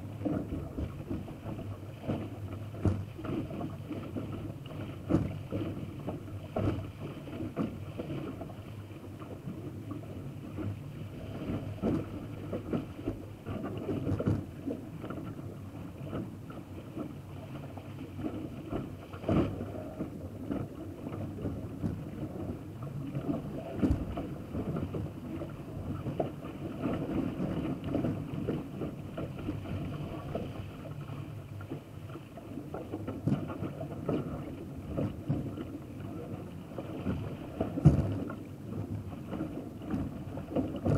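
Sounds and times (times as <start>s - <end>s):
water rushing along boat bow: 0.0s - 40.9s
waves slapping against hull: 0.0s - 40.9s.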